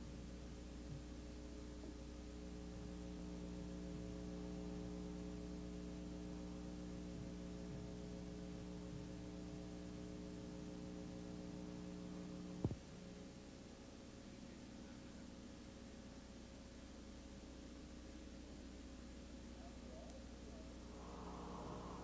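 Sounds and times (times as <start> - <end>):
droning hum of held tones: 0.0 - 22.0.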